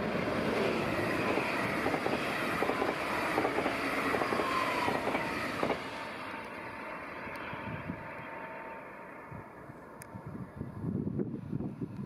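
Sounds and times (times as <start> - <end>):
train rolling rumble: 0.0 - 12.0.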